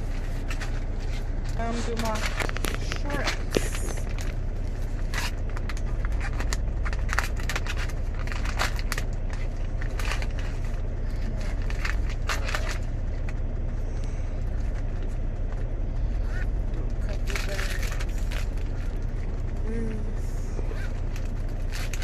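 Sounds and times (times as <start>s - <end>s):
plastic bags crinkling: 0.0s - 13.8s, 14.4s - 22.0s
steady low rumble: 0.0s - 22.0s.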